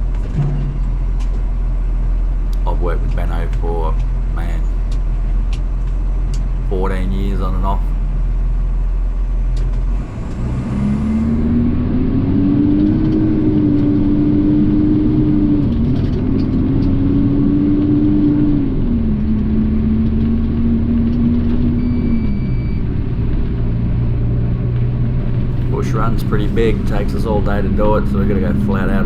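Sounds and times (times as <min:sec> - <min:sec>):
garbage truck engine whining: 0:00.0 - 0:29.0.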